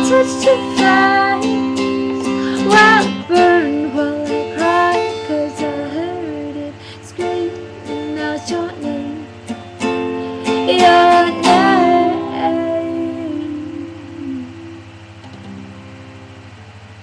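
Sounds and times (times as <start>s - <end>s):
person singing long wavering notes: 0.0s - 9.5s, 10.2s - 15.2s
plucked string accompaniment: 0.0s - 17.0s.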